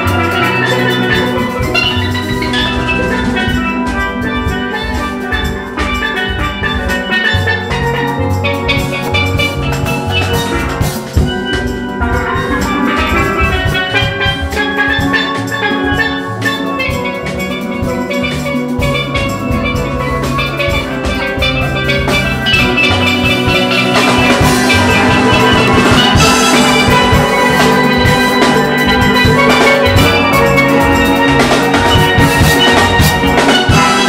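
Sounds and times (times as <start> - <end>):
drum kit beat: 0.0 - 34.0
steel pans playing melody: 0.0 - 34.0.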